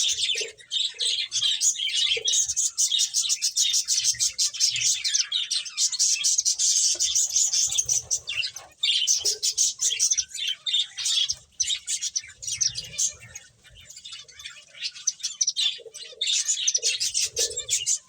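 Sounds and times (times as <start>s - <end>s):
finches chirping: 0.0s - 18.0s.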